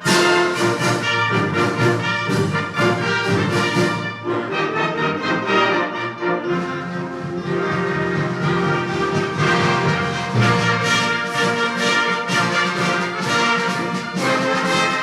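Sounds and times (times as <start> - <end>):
wind band playing: 0.0 - 15.0.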